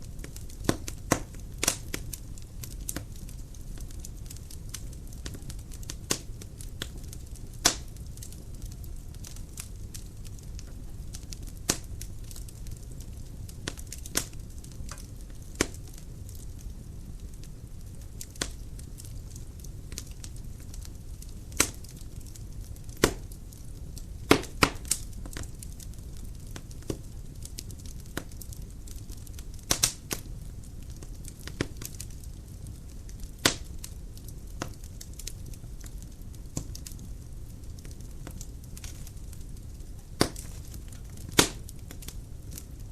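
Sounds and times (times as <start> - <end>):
firewood crackling and snapping: 0.0 - 42.9
low rumble of flame: 0.0 - 42.9.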